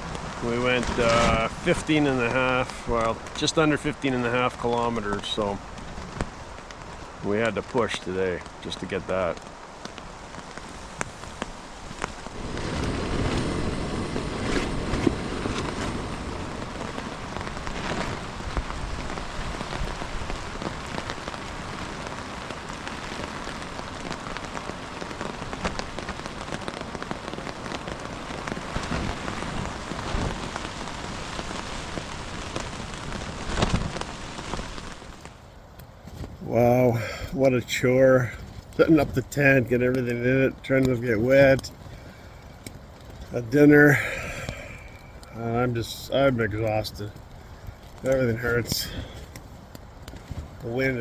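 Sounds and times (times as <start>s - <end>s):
heavy rain pattering: 0.0s - 51.0s
wind rumbling on microphone: 0.0s - 51.0s.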